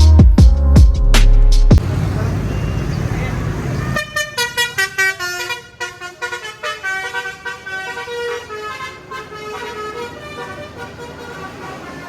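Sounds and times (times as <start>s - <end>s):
bus musical horn playing tune: 1.9s - 12.0s.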